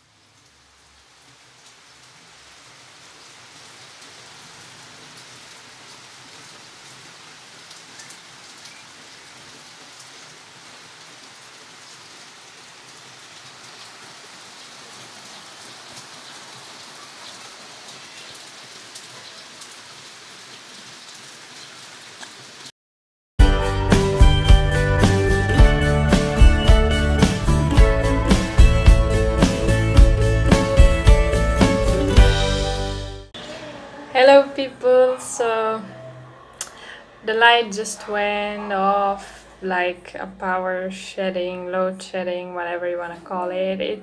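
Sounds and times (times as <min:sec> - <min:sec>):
steady rain falling: 0:00.0 - 0:22.7, 0:23.7 - 0:44.0.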